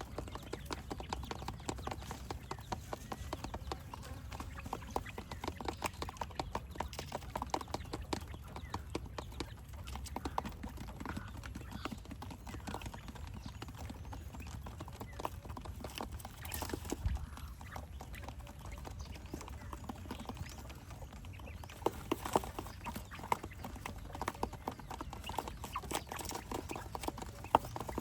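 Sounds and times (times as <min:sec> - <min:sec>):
quail pecking taps: 0:00.0 - 0:28.0.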